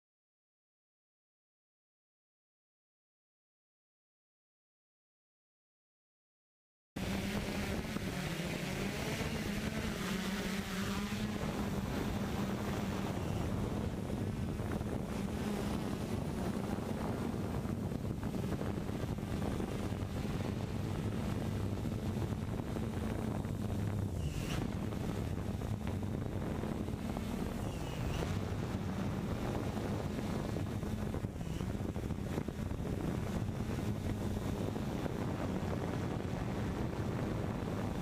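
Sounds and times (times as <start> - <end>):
drone propellers humming: 7.0 - 38.0
wind buffeting microphone: 7.0 - 38.0.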